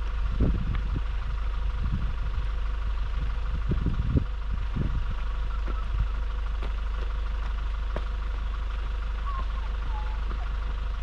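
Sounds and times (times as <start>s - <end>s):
dull low bumps: 0.0s - 11.0s
truck engine idling: 0.0s - 11.0s.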